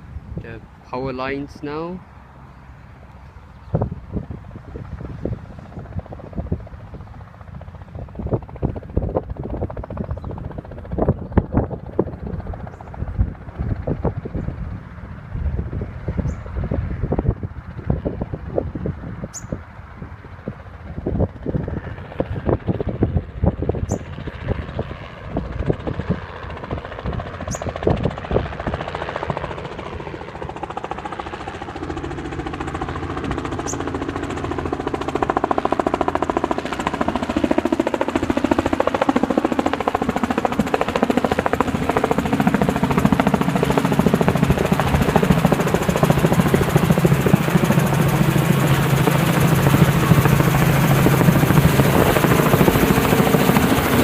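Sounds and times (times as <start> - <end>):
wind gusts on microphone: 0.0 - 2.0, 3.4 - 54.0
helicopter engine and rotor: 0.0 - 54.0.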